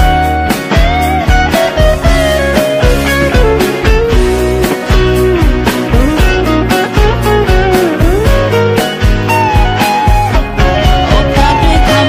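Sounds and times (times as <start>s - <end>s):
sliding lead melody: 0.0s - 12.0s
steady drum beat: 0.0s - 12.0s.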